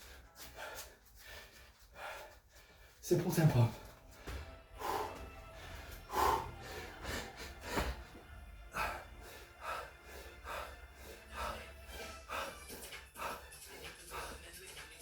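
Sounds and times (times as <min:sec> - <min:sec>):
man breathing hard: 0:00.0 - 0:03.0, 0:03.8 - 0:15.0
faint background music: 0:00.0 - 0:15.0.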